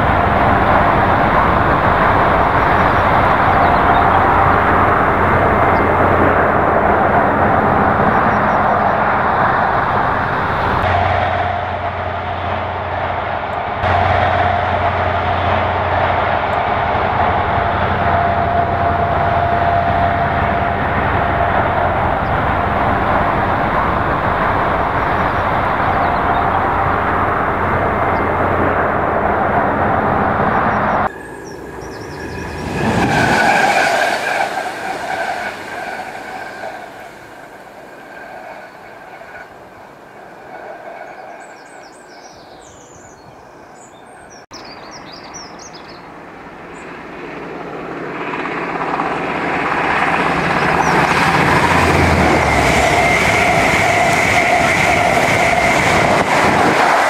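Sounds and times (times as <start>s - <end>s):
high train whine: 0.0s - 57.0s
trains passing: 0.0s - 57.0s
wheels rushing on rail: 0.0s - 57.0s.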